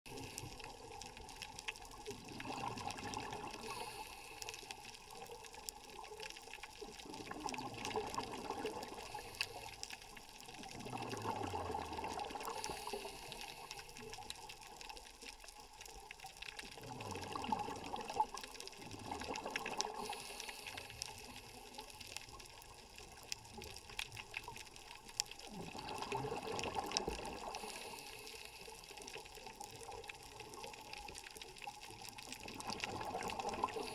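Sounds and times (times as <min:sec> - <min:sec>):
exhaled bubbles gurgling underwater: 0:00.1 - 0:33.9
faint clicks: 0:00.1 - 0:33.9.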